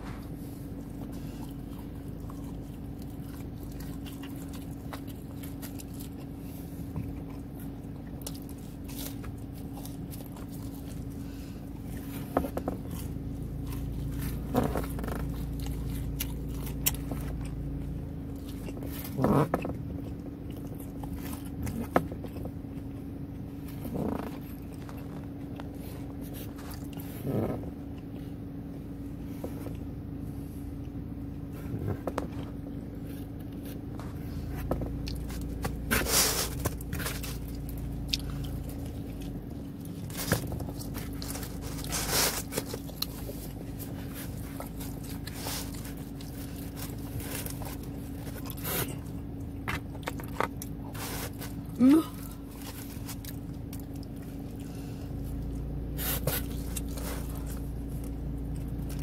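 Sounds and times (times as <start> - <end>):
low steady hum: 0.0 - 59.0
person chewing and biting: 0.0 - 59.0.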